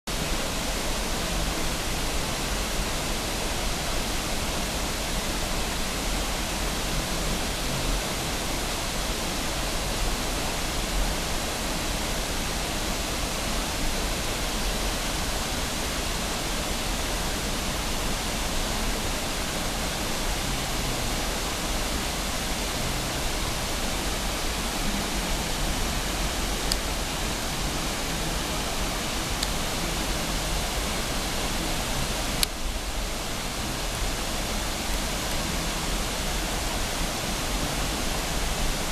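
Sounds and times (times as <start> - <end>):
waterfall rushing: 0.1 - 38.9.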